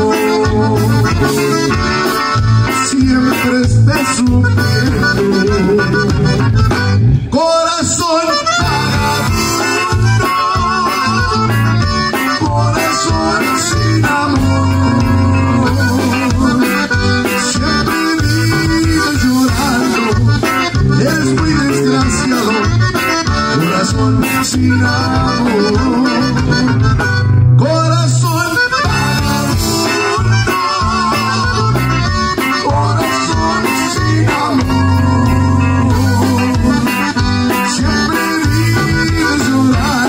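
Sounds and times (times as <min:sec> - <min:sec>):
drum kit beat: 0:00.0 - 0:07.2, 0:08.3 - 0:27.4, 0:28.3 - 0:40.0
acoustic guitar: 0:00.0 - 0:40.0
button accordion melody: 0:00.0 - 0:40.0
electric bass: 0:00.0 - 0:40.0.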